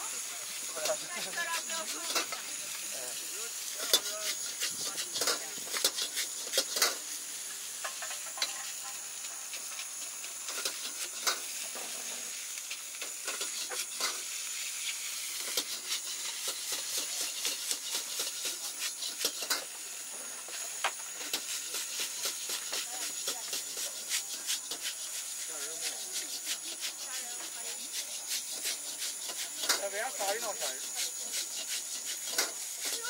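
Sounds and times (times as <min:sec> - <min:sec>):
food sizzling in a wok: 0:00.0 - 0:33.0
metal ladle scraping a wok: 0:00.6 - 0:02.5, 0:03.2 - 0:12.4, 0:13.0 - 0:33.0.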